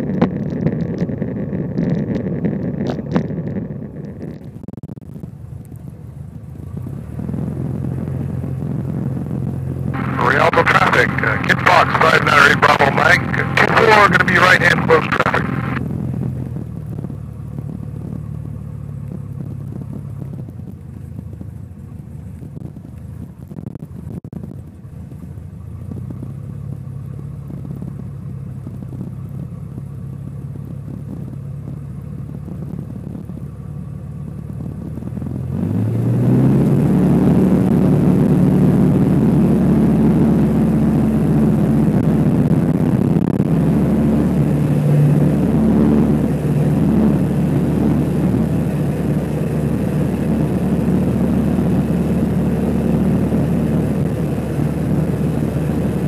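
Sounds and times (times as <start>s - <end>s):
light aircraft propeller engine: 0.0s - 56.0s.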